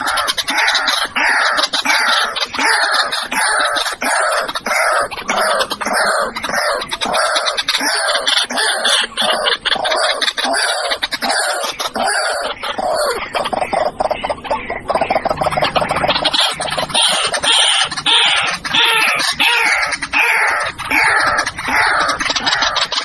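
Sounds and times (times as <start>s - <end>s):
waterhen calling: 0.0s - 23.0s.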